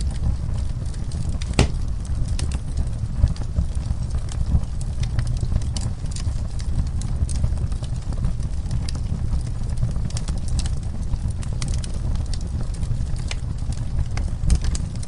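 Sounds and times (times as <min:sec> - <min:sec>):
fire flames rumbling: 0:00.0 - 0:15.0
wood crackling and popping: 0:00.0 - 0:15.0.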